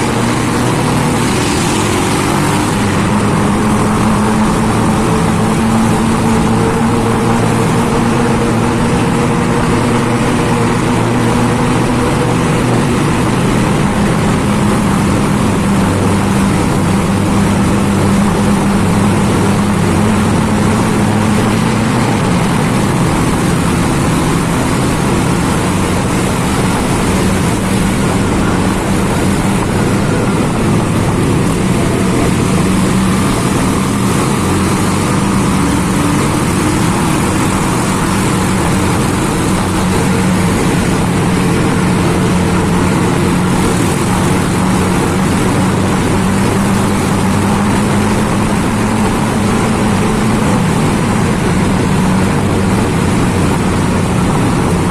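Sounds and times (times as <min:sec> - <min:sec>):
motorcycle engines in tunnel: 0:00.0 - 0:54.9.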